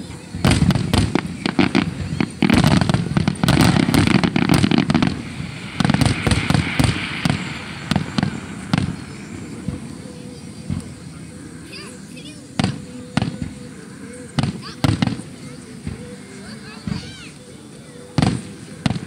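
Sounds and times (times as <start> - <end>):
fireworks bursts banging: 0.0 - 17.4, 18.1 - 19.0.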